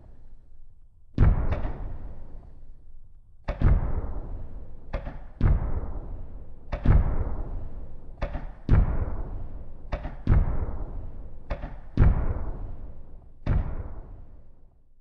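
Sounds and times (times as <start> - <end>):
fireworks bursting with booms: 1.2 - 2.7, 3.5 - 14.5.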